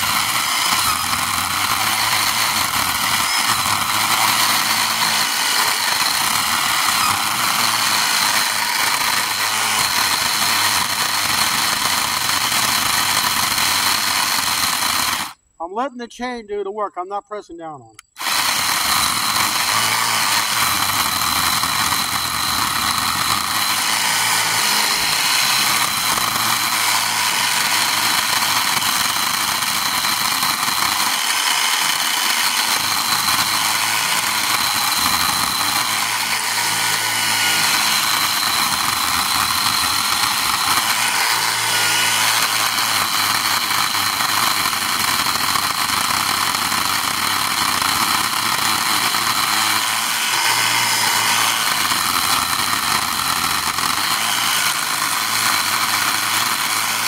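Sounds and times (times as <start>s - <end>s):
battery chainsaw cutting wood: 0.0s - 15.4s, 18.0s - 57.0s.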